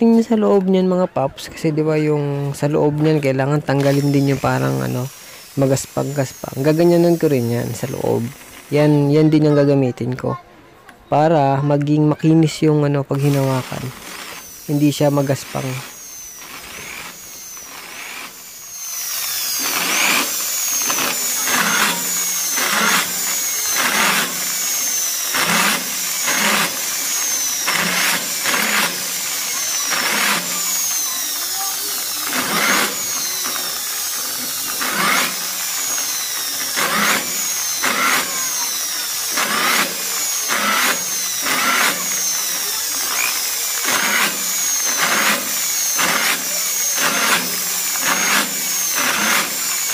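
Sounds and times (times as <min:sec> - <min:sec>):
drill bit grinding metal: 0:00.0 - 0:10.4, 0:11.5 - 0:49.9
electric drill whining: 0:00.0 - 0:10.4, 0:11.8 - 0:49.9.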